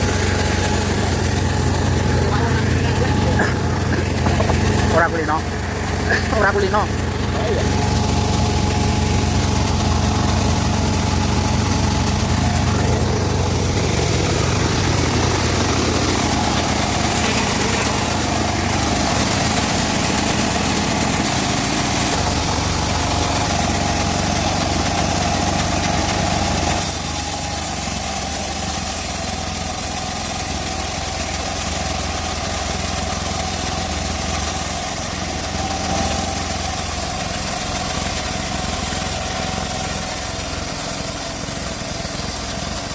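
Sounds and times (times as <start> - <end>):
band sawmill engine running: 0.0 - 42.9
sawmill whine: 0.0 - 42.9.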